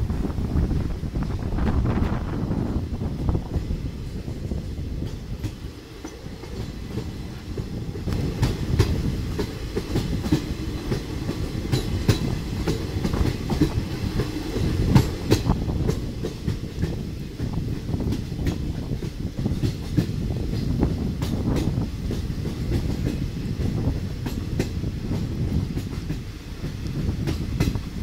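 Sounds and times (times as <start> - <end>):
train wheels rumbling on rail: 0.0 - 28.0
wheels clicking over rail joints: 4.7 - 28.0.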